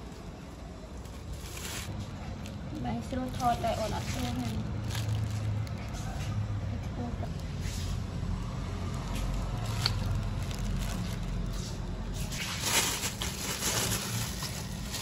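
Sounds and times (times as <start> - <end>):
plastic bag crinkling: 0.1 - 6.2, 8.4 - 15.0.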